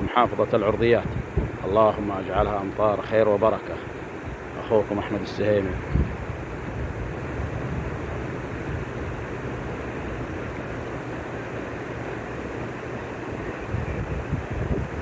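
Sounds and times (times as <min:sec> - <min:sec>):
rushing floodwater torrent: 0:00.0 - 0:15.0.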